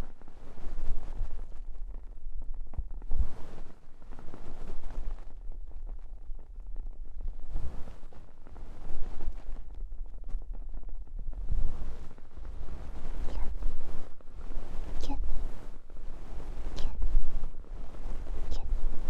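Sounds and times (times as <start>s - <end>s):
faint crackles: 0.0s - 19.0s.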